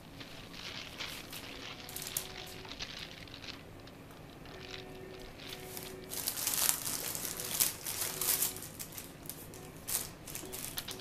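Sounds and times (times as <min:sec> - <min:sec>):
paper wrapping crinkling: 0:00.0 - 0:11.0.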